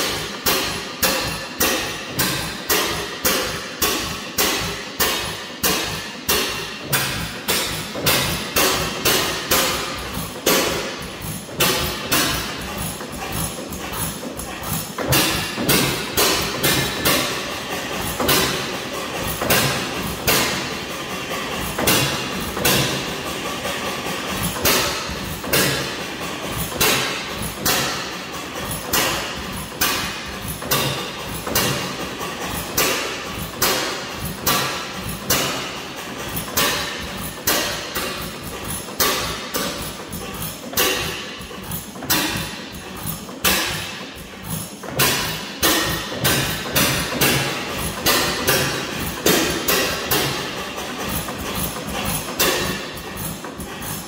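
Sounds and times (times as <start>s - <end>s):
engine exhaust popping: 0.0s - 54.0s.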